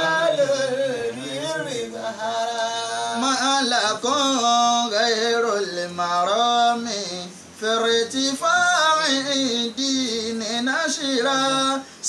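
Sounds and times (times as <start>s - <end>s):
man chanting: 0.0s - 11.9s.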